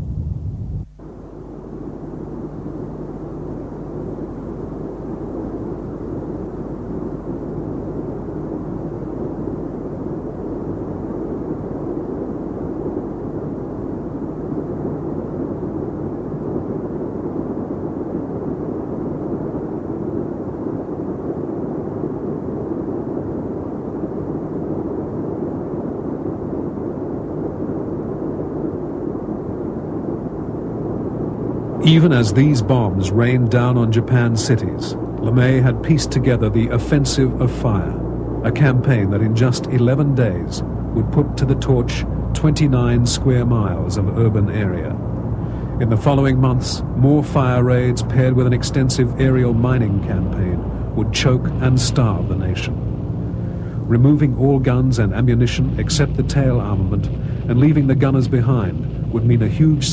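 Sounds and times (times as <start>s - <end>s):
piston aircraft engines droning: 0.0s - 59.9s.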